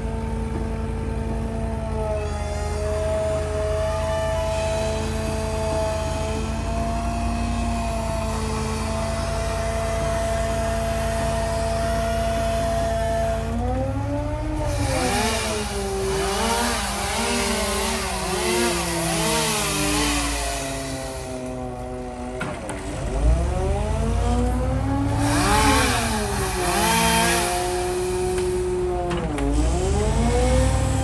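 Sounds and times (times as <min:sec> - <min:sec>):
chainsaw revving and cutting: 0:02.0 - 0:31.0.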